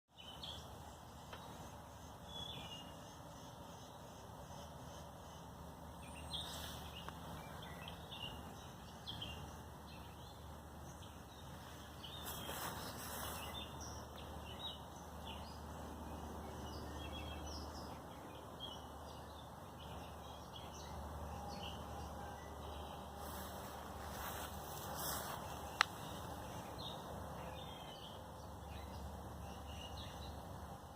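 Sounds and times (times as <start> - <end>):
small birds chirping: 0.1 - 30.9
faint steady hum: 0.2 - 30.9.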